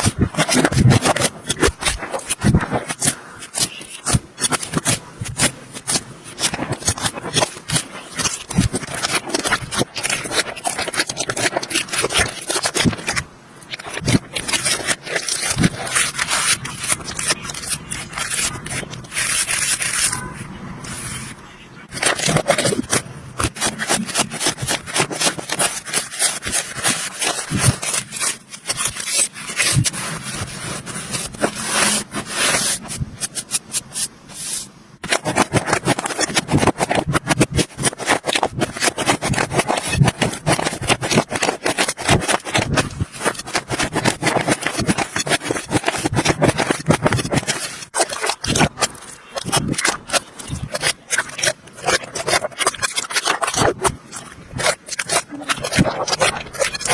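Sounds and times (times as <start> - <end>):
slime being worked by hand: 0.0 - 56.9.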